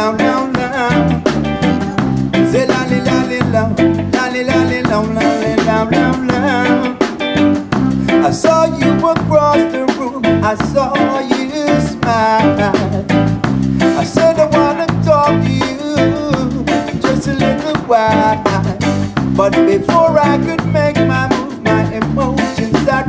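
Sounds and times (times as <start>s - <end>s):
electric guitar: 0.0s - 23.0s
live reggae band playing: 0.0s - 23.0s.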